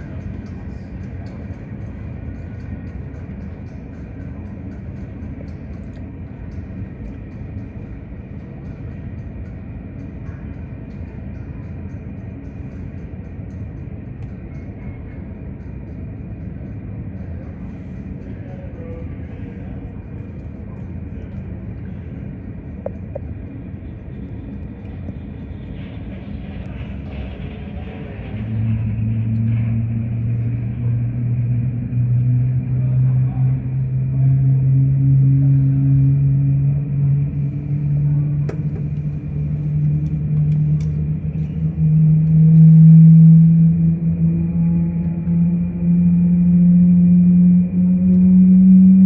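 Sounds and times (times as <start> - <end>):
muffled jet engines rumble: 0.0 - 49.0.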